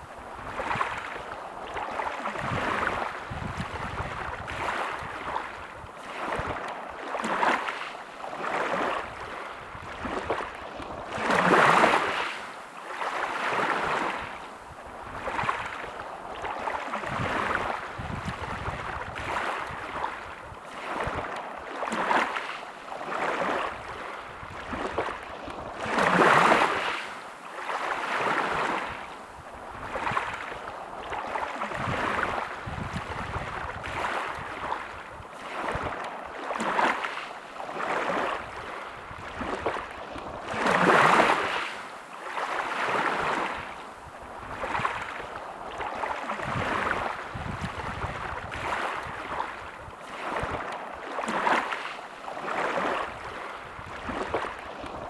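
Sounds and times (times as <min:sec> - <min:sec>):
small waves lapping: 0:00.0 - 0:55.0
surges of water: 0:00.0 - 0:55.0.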